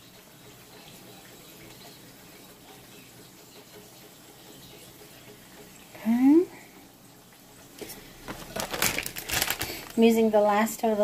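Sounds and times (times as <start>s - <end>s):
potatoes frying in hot oil: 0.0s - 11.0s.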